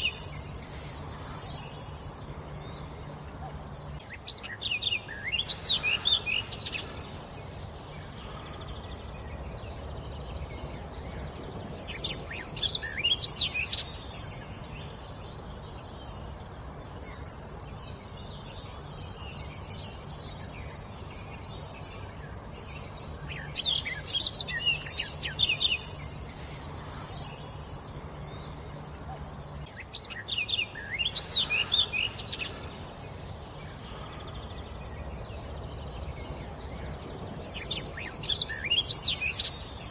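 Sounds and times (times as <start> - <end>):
steady low background noise: 0.0 - 39.9
songbird singing high sliding notes: 3.8 - 16.4, 19.4 - 28.9, 29.5 - 39.9.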